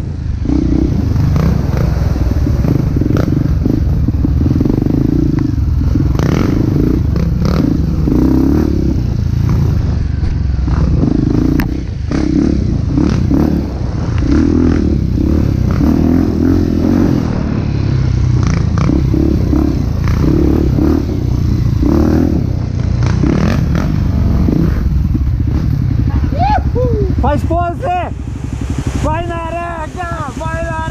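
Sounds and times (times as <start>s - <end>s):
motorcycle engine rumbling: 0.0s - 30.9s.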